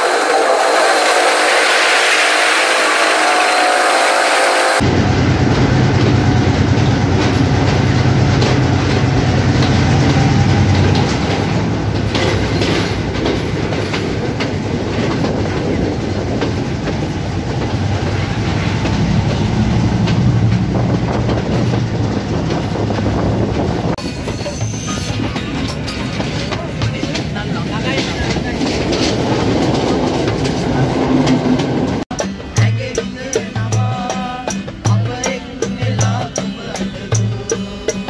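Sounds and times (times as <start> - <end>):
wheels clickety-clack: 0.0 - 32.0
train rumbling on rails: 0.0 - 38.0.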